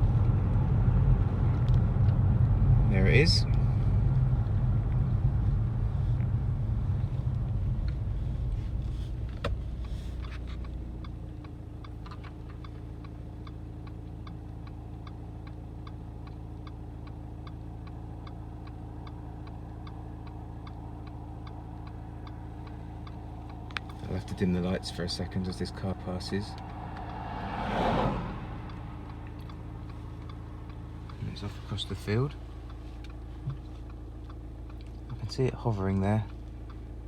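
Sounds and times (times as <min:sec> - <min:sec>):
car engine idling: 0:00.0 - 0:37.0
car road noise: 0:00.0 - 0:37.0
regular ticking: 0:06.2 - 0:37.0.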